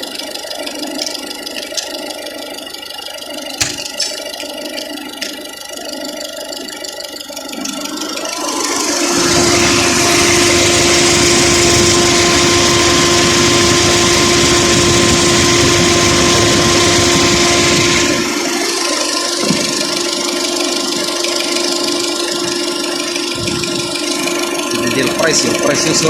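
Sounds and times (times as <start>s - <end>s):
engine idling: 0.0s - 26.0s
radiator cooling fan whirring: 0.0s - 26.0s.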